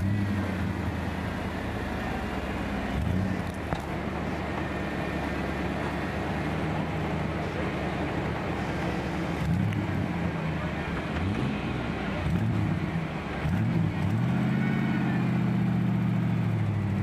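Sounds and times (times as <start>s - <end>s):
truck engine running at low speed: 0.0s - 17.0s.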